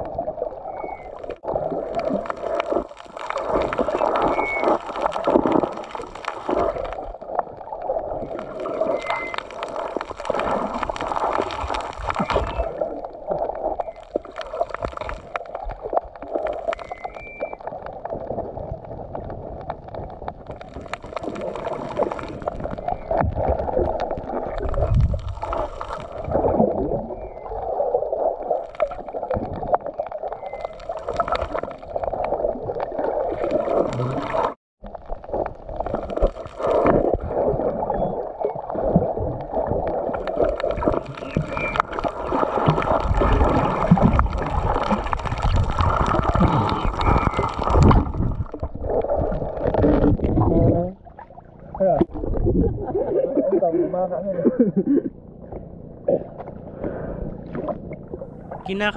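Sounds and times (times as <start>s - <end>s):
underwater gurgling and swishing: 0.0s - 58.9s.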